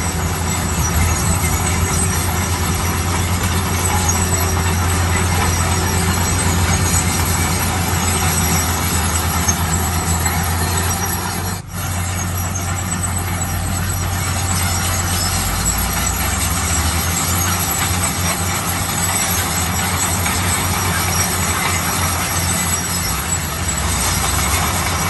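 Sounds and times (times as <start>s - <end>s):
diesel engine hum: 0.0s - 25.0s
mechanical clatter: 0.0s - 25.0s.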